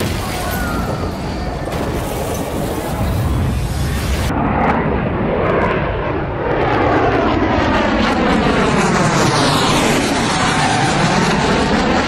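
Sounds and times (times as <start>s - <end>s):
airplane flying past: 0.0s - 12.0s.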